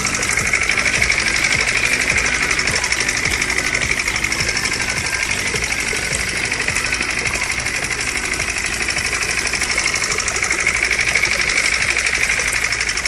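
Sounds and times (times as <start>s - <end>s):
small motor running: 0.0s - 13.0s.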